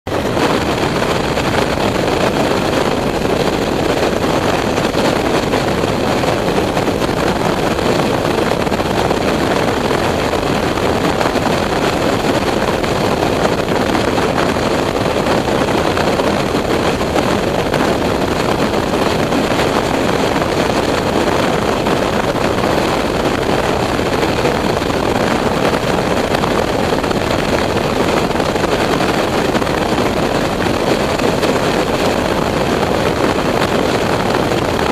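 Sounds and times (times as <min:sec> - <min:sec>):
road noise: 0:00.0 - 0:34.9
motorcycle engine: 0:00.1 - 0:34.9
wind buffeting microphone: 0:00.1 - 0:34.9.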